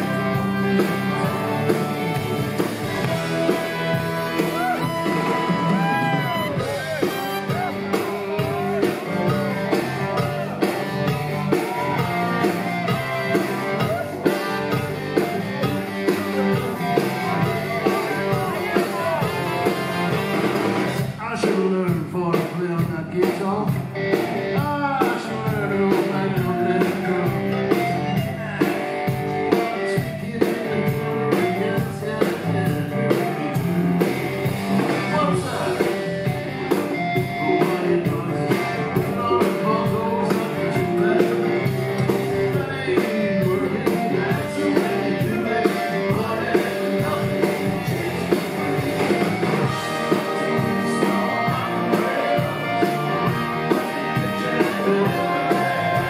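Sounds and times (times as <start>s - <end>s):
man singing: 0.0s - 20.1s, 21.0s - 34.2s, 34.8s - 56.0s
bass guitar: 0.0s - 56.0s
drum kit beat: 0.0s - 56.0s
electric guitar: 0.0s - 56.0s.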